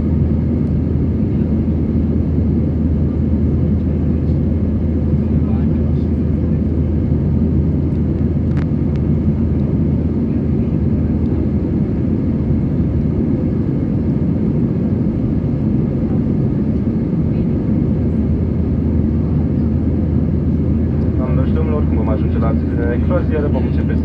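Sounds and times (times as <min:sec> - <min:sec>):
airplane engines and airflow roar: 0:00.0 - 0:24.0.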